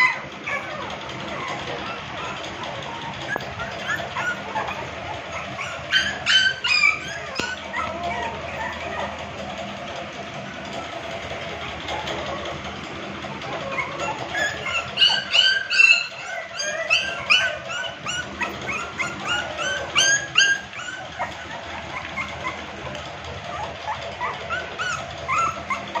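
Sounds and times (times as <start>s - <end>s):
puppies whining and yipping: 0.0s - 26.0s.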